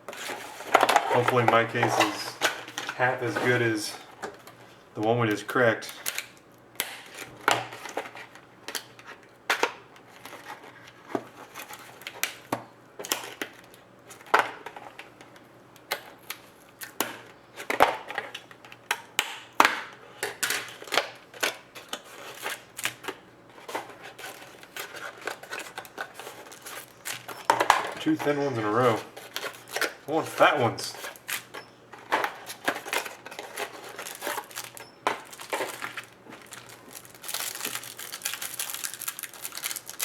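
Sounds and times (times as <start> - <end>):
crinkling wrappers and cardboard: 0.0 - 15.2, 20.4 - 40.0.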